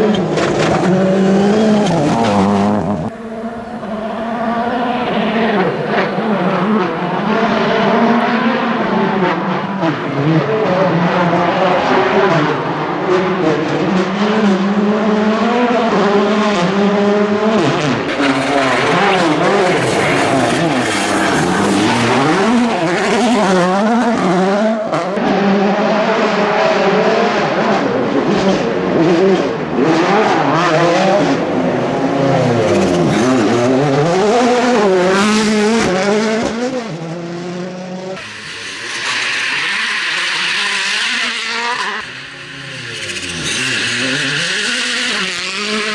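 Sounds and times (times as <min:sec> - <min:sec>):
rally car engine revving hard: 0:00.0 - 0:45.9.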